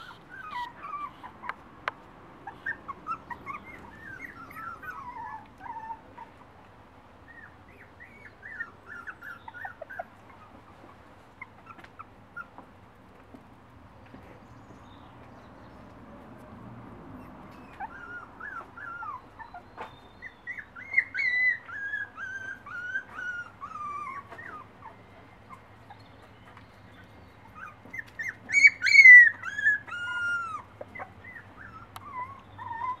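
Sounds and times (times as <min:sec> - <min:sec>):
puppies whining: 0:00.0 - 0:01.6, 0:02.4 - 0:06.5, 0:07.2 - 0:12.7, 0:17.1 - 0:33.0.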